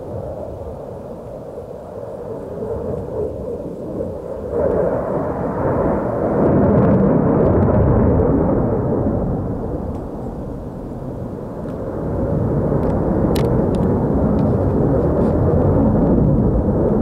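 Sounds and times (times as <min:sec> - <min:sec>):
distant jet engine rumbling: 0:00.0 - 0:17.0.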